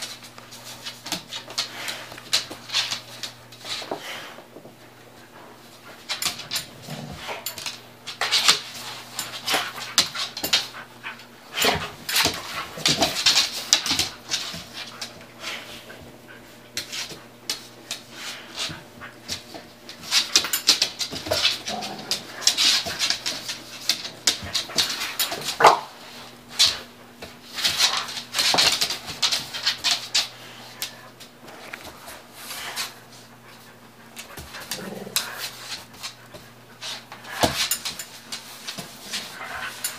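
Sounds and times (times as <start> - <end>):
dogs scuffling and clicking: 0.0 - 39.9.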